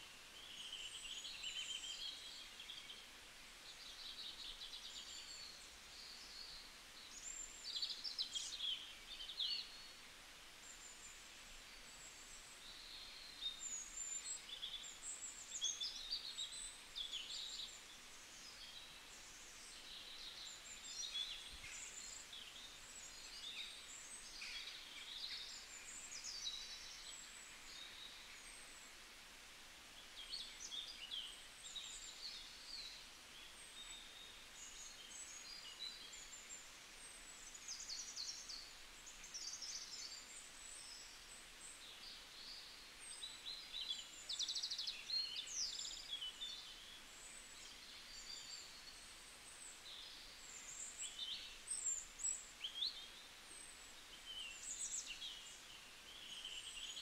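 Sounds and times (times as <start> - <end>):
birds chirping faintly: 0.0 - 57.0.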